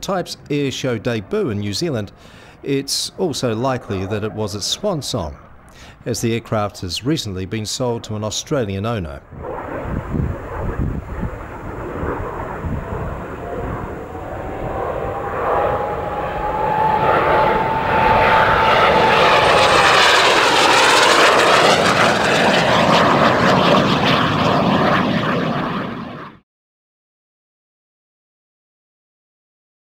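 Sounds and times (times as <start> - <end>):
jet passing by with whine: 0.6 - 8.1, 9.2 - 26.4.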